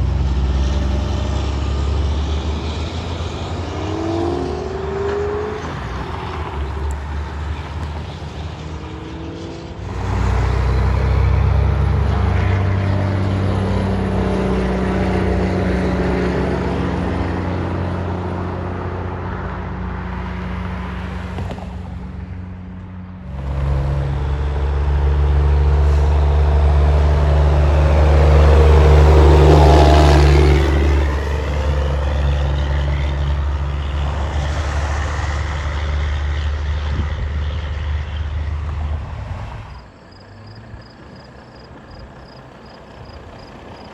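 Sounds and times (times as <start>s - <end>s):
trucks driving past: 0.0s - 43.9s.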